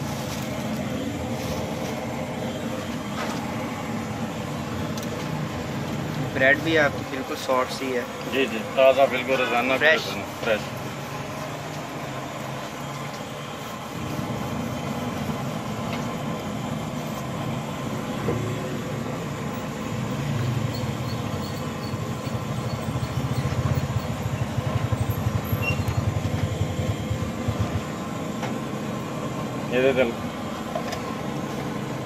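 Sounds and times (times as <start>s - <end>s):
engine throbbing: 0.0s - 32.0s.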